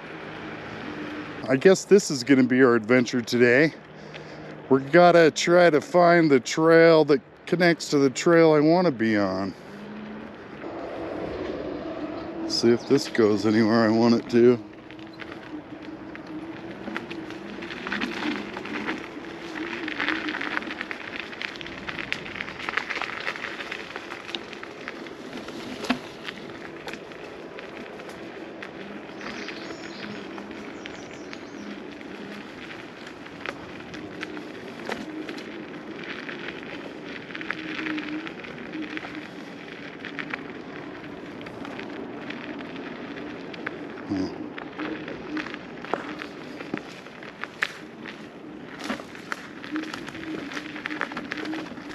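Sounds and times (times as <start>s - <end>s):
faint electric motor whine: 0.0s - 6.2s, 6.9s - 51.9s
electric scooter hum: 0.0s - 51.9s
tyres crunching on loose ground: 0.0s - 51.9s.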